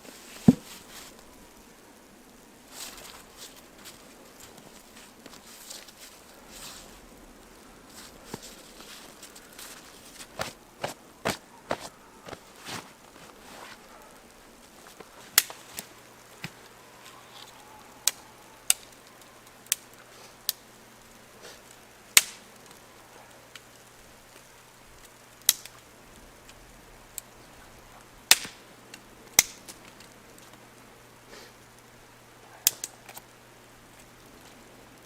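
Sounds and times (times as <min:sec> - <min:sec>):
wood cracking and snapping: 0:00.1 - 0:30.7, 0:32.6 - 0:35.0.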